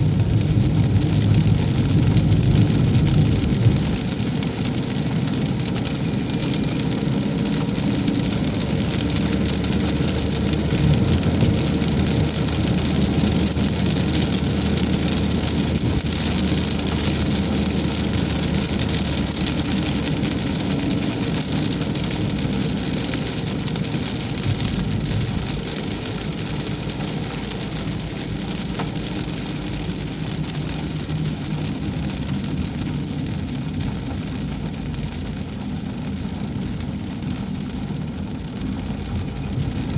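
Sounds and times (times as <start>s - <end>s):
car engine and road noise: 0.0s - 39.9s
heavy rain: 0.0s - 39.9s.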